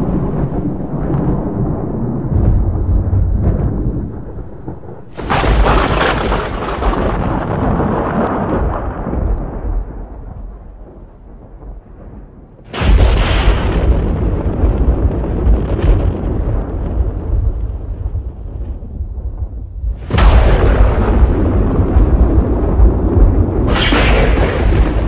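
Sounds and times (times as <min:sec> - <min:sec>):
thunder cracking and rumbling: 0:00.0 - 0:25.0.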